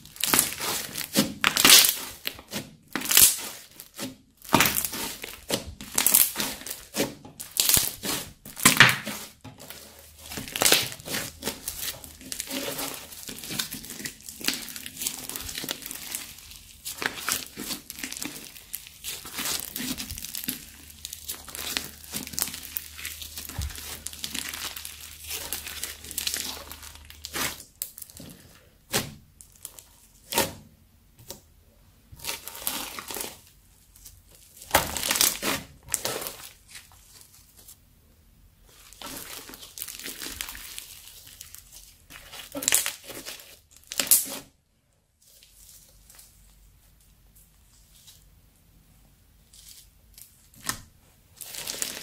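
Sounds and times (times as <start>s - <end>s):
crunchy slime crackling: 0.0s - 30.6s, 32.1s - 37.8s, 38.6s - 44.6s, 49.5s - 52.0s.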